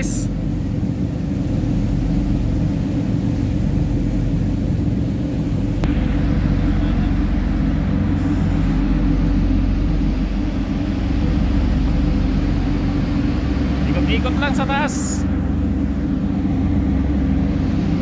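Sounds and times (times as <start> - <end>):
faint steady hum: 0.0 - 18.0
ship engines rumbling: 0.0 - 18.0.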